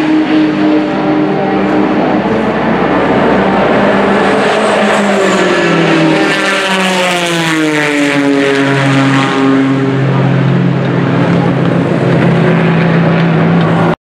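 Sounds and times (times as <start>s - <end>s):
low engine drone: 0.0s - 14.0s
race car passing: 0.0s - 14.0s.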